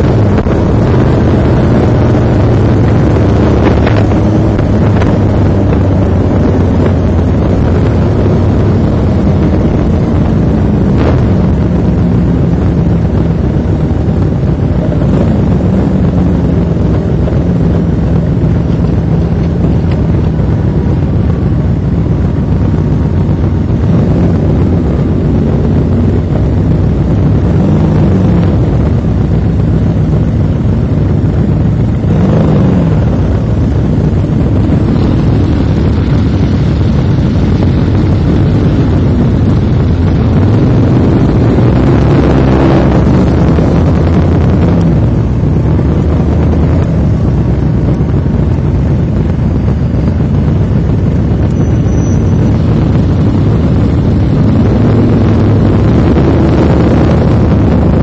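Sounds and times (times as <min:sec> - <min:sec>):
motorcycle engines revving: 0:00.0 - 0:58.0
wind rumble on microphone: 0:00.0 - 0:58.0.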